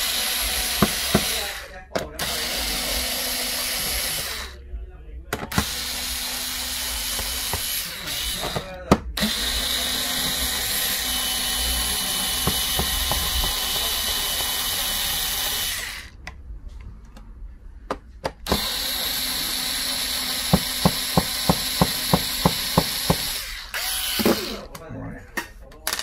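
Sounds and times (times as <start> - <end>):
cordless screwdriver running: 0.0 - 4.6, 5.5 - 16.2, 18.5 - 24.7.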